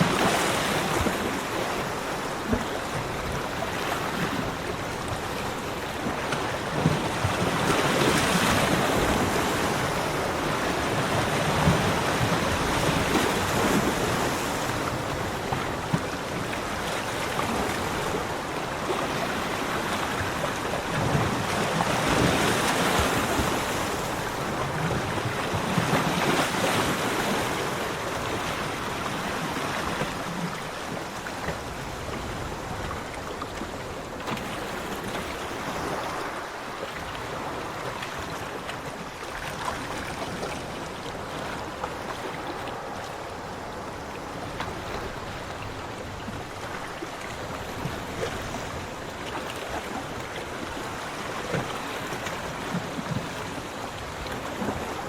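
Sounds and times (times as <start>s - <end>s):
sea waves breaking on beach: 0.0s - 55.0s.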